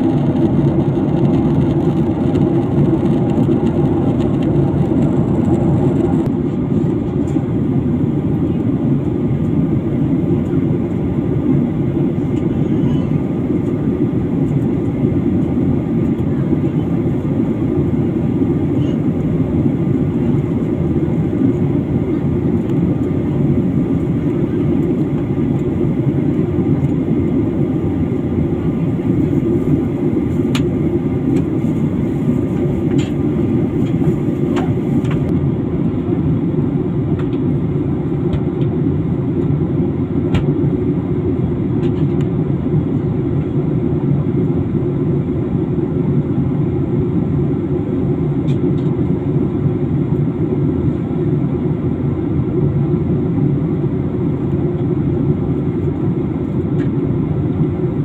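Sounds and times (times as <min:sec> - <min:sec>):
engine and airflow rush: 0:00.0 - 0:58.0.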